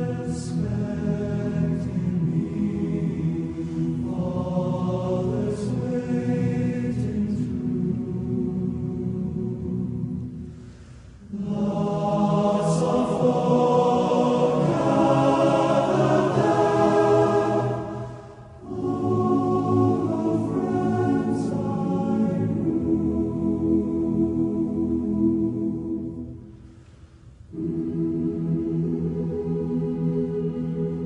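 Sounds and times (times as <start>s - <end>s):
choir singing held chords: 0.0s - 31.0s.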